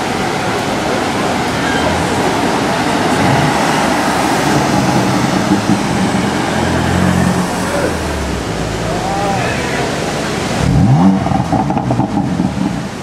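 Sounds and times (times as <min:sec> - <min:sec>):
car engine low drone: 0:00.0 - 0:13.0
road traffic noise: 0:00.0 - 0:13.0.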